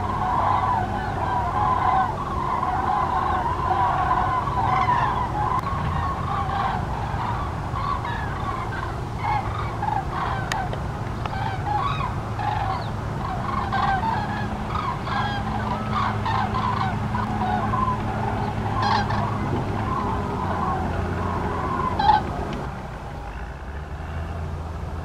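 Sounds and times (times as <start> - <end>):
cranes calling in flight: 0.0 - 24.5
steady low hum: 0.0 - 25.0.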